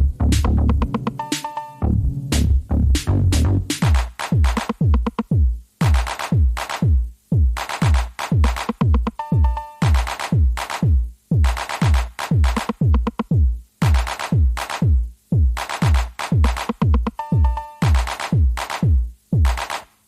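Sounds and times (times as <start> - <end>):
drum machine kicks: 0.0 - 20.0
electronic music: 0.0 - 20.0.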